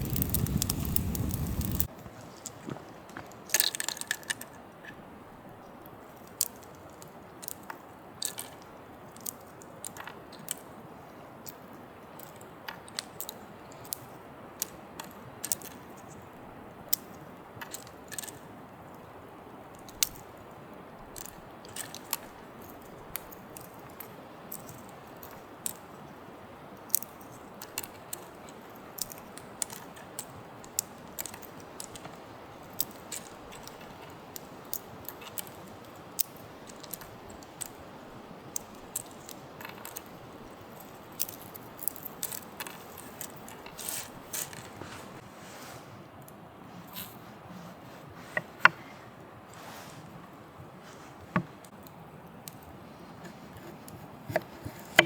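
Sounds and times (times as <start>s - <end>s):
campfire crackling: 0.0s - 4.4s, 5.2s - 45.2s
steady background hiss: 0.0s - 55.0s.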